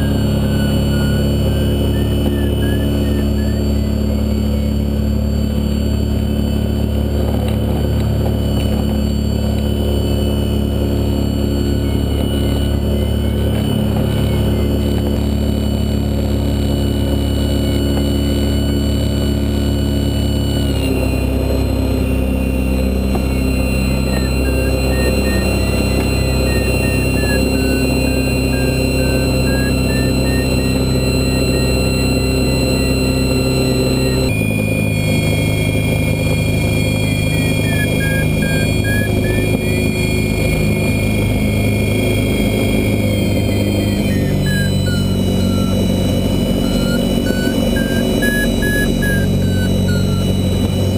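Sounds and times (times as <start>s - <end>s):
electric motor and propeller humming: 0.0s - 50.9s
variometer beeping: 0.0s - 50.9s.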